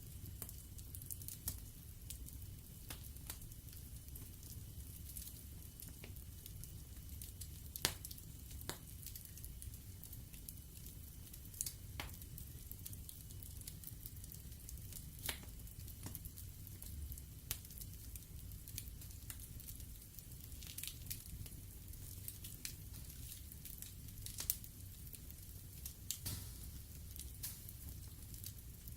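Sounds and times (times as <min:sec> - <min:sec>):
low rumble of flames: 0:00.0 - 0:28.9
wood fire crackling and popping: 0:00.0 - 0:28.9.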